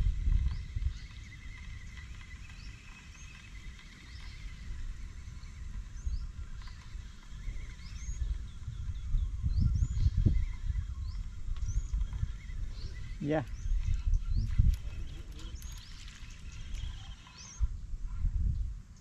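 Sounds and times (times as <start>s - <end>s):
birds whistling: 0.2s - 17.7s
bird trilling: 0.6s - 17.7s.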